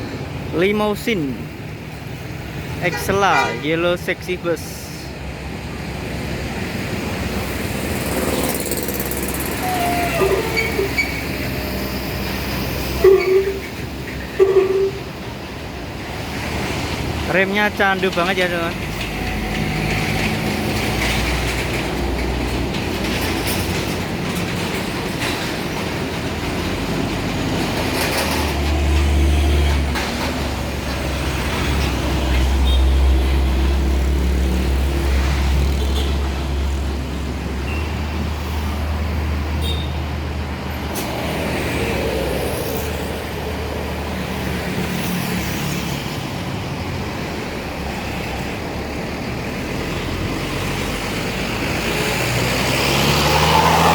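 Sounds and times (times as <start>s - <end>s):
diesel bus engine rumbling: 0.0s - 53.9s.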